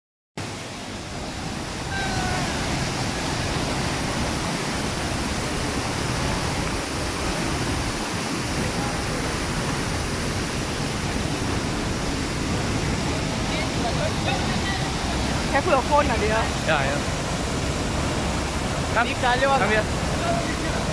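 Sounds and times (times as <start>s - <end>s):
waterfall rushing: 0.4s - 20.9s.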